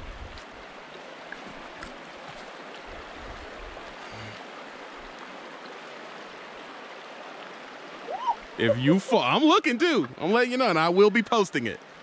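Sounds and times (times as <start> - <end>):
creek rushing over rocks: 0.0 - 12.0.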